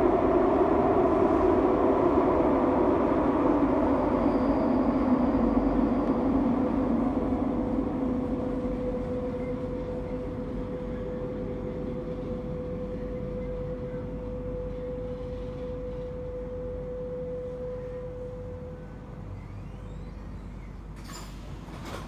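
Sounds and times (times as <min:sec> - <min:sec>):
steady train whine: 0:00.0 - 0:22.0
train wheels rumbling on rails: 0:00.0 - 0:22.0.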